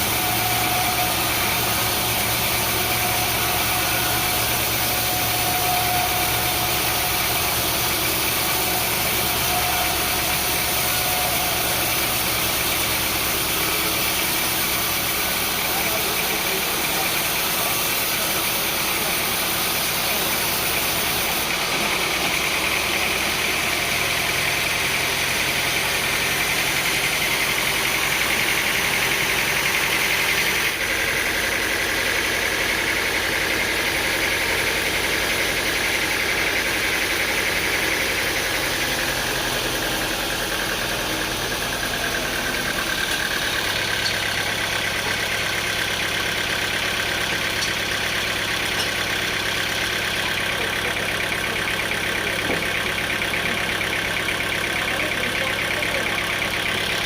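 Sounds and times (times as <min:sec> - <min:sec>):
high machine whine: 0:00.0 - 0:53.0
sawmill machinery drone: 0:00.0 - 0:57.0.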